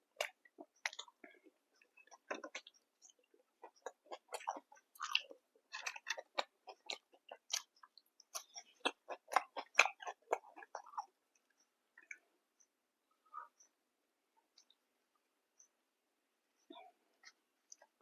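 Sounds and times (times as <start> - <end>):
person chewing food: 0.0 - 13.8, 17.1 - 18.0.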